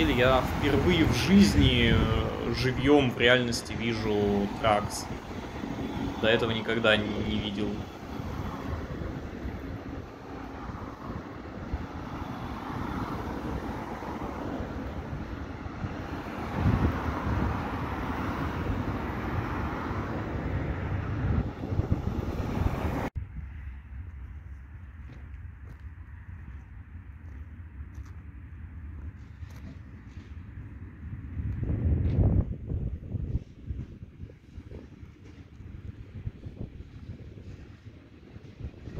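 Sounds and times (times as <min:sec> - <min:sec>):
cars driving past: 0:00.0 - 0:34.1
wind buffeting microphone: 0:00.0 - 0:38.9.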